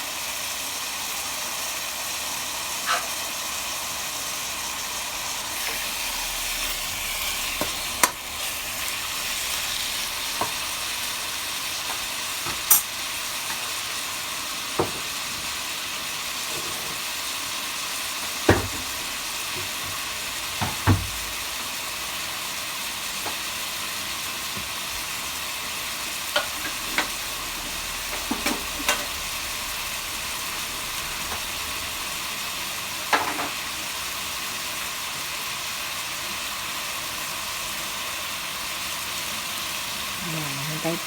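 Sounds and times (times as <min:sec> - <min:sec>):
chicken frying in hot oil: 0:00.0 - 0:41.0.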